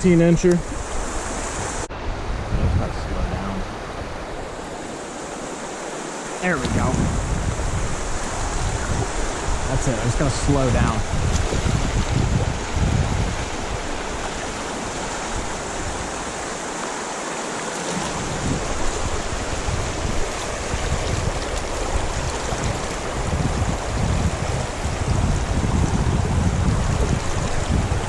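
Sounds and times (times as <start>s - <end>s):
wind buffeting microphone: 0.0s - 5.6s, 6.4s - 16.6s, 17.9s - 28.0s
creek water running: 0.0s - 28.0s.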